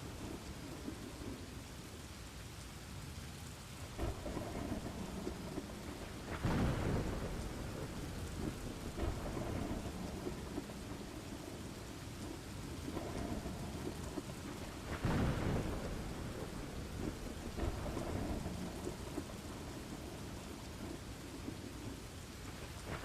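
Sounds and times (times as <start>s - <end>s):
steady rain: 0.0s - 23.0s
rolling thunder: 3.9s - 23.0s.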